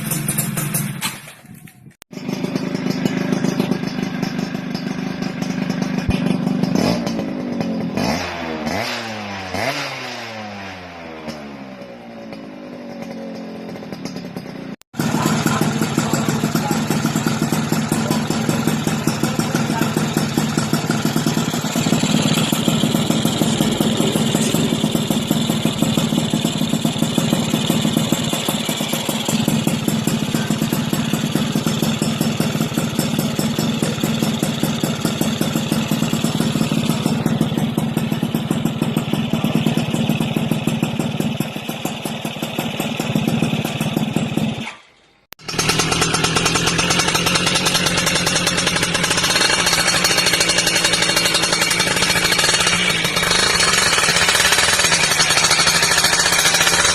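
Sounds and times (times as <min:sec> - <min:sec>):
rattling motorcycle exhaust: 0:00.0 - 0:56.9
two-stroke motorcycle exhaust: 0:00.0 - 0:56.9.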